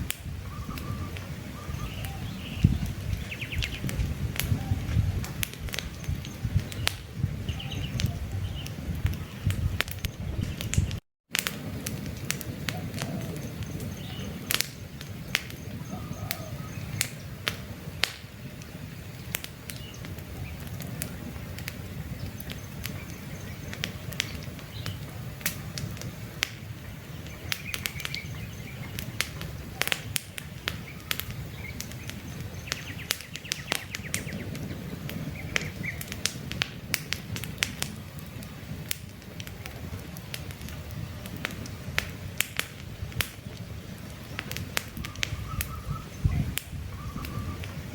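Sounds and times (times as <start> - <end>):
campfire crackling and popping: 0.0 - 47.9
low rumble of flames: 0.0 - 47.9
birds chirping: 0.3 - 11.0, 12.5 - 38.8, 43.4 - 47.9.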